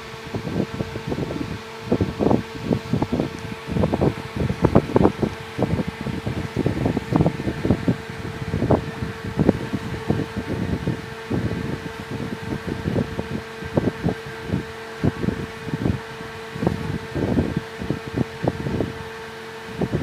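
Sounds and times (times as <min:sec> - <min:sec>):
fan humming: 0:00.0 - 0:20.0
low thumps and rumbles: 0:00.2 - 0:19.0.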